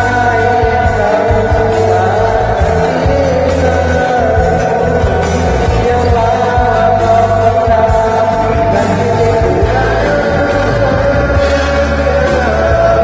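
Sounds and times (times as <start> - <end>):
gliding vocal melody: 0.0 - 13.0
steady bass line: 0.0 - 13.0.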